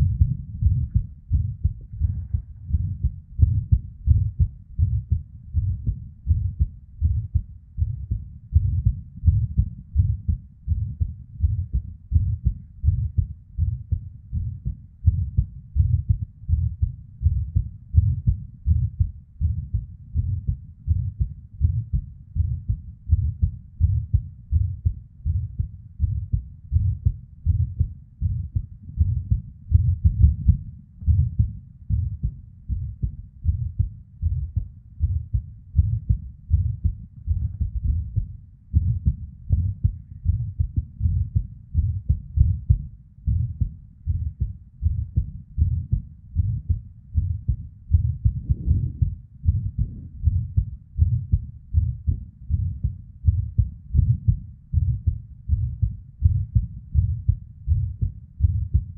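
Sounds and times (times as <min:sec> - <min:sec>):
heartbeat: 0:00.0 - 0:58.9.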